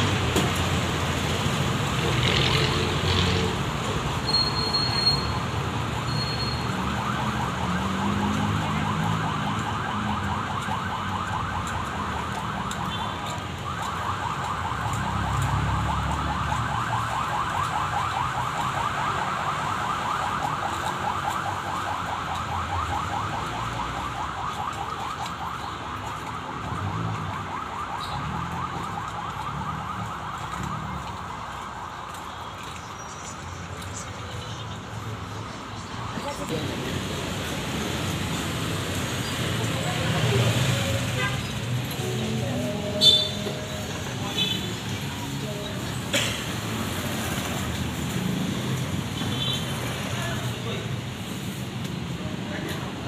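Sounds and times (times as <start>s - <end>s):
street traffic engines: 0.0s - 53.0s.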